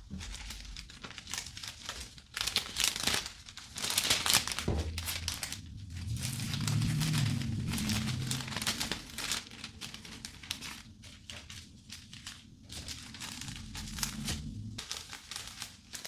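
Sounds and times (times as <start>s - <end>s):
cellophane crinkling: 0.0s - 16.0s.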